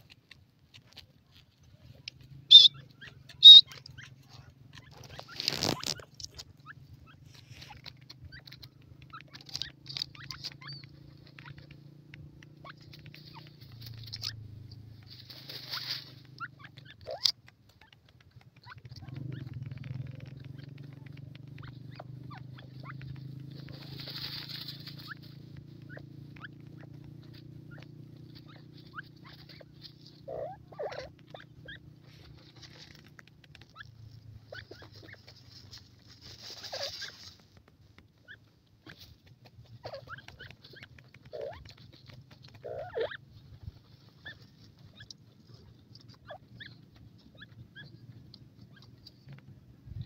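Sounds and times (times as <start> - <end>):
birds rustling in dry soil: 0.0 - 50.0.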